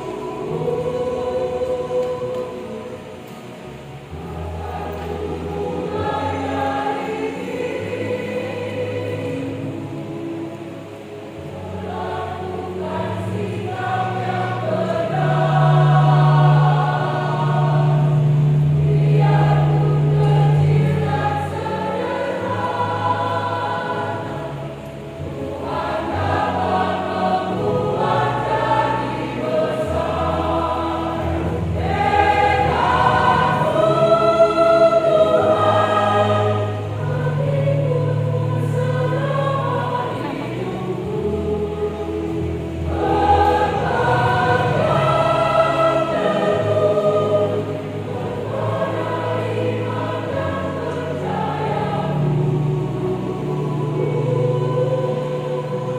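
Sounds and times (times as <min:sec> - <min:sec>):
choir singing a hymn: 0:00.0 - 0:55.9.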